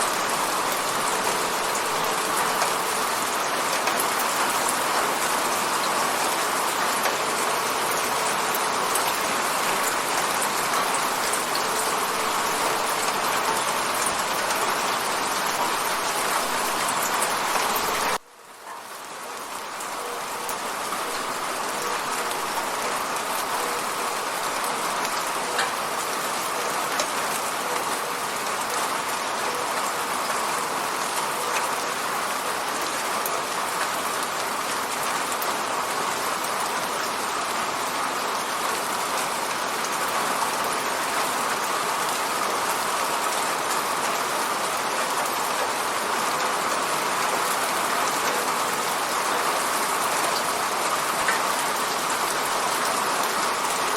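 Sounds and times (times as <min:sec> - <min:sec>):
rain hitting a window: 0:00.0 - 0:53.9.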